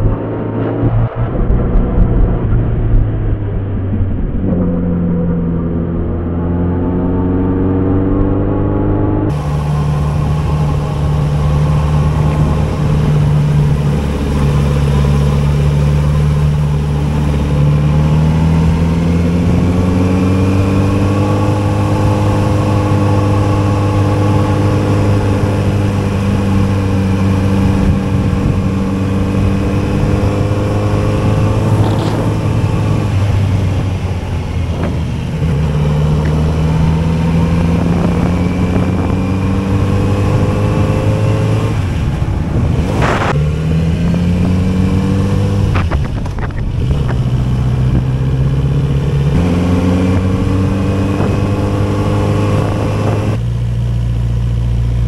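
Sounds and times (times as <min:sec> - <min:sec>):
motorcycle engine running: 0:09.2 - 0:55.0.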